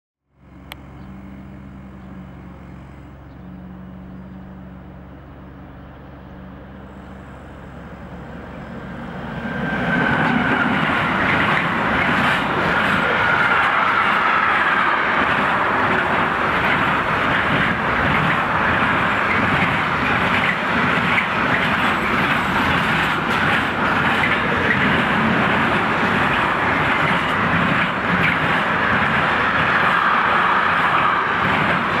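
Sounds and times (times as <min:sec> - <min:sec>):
freight train rumbling and rattling: 0:00.4 - 0:32.0
wheels screeching: 0:05.6 - 0:32.0.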